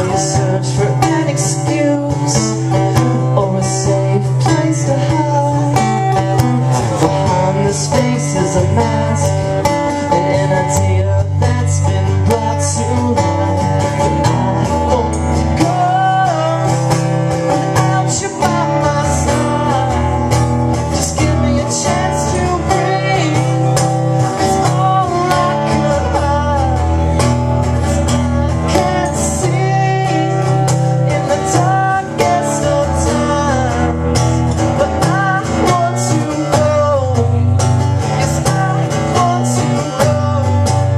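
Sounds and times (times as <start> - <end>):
acoustic guitar strumming: 0.0 - 40.9
man singing: 0.0 - 40.9.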